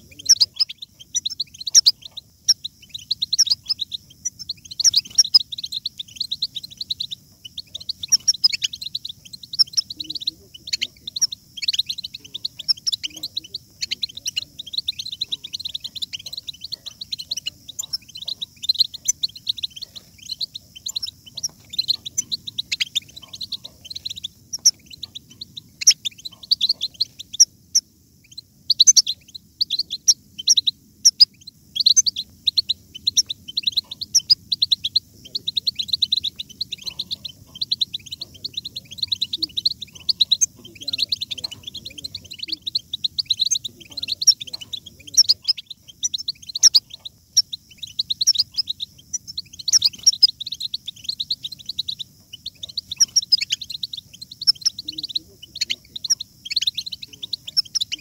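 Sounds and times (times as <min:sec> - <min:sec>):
goldfinch twittering song: 0:00.0 - 0:58.0.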